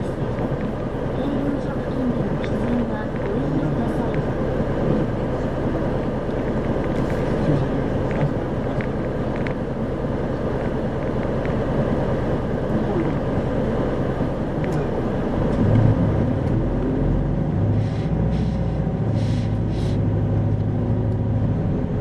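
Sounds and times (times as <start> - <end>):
diesel bus engine: 0.0 - 22.0
road noise: 0.0 - 22.0.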